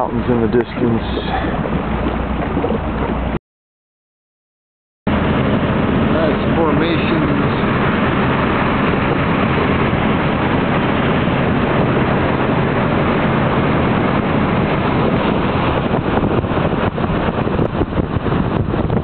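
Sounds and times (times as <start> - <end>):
boat motor running: 0.0 - 3.4, 5.1 - 19.0
wind and water rushing: 0.0 - 3.4, 5.1 - 19.0.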